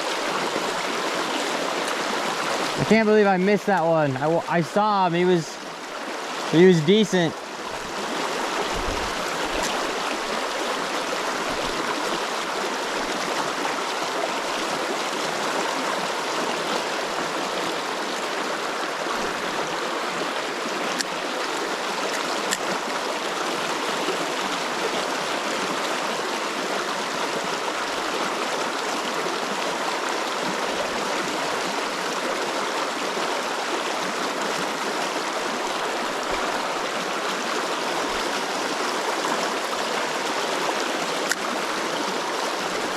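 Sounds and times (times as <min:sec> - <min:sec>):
river current rushing: 0:00.0 - 0:42.9.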